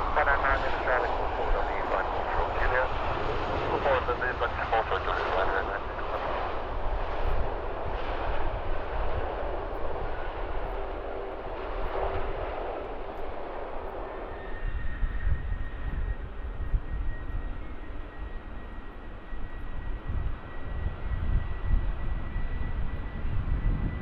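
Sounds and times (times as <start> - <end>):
airplane engines rushing: 0.0 - 24.0
faint steady whine: 0.0 - 24.0.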